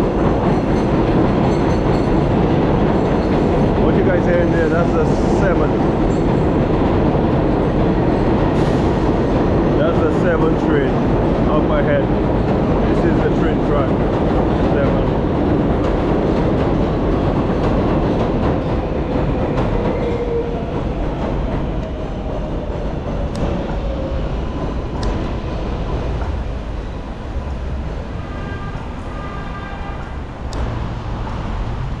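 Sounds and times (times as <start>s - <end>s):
elevated train rumbling: 0.0s - 32.0s
street traffic: 0.0s - 32.0s.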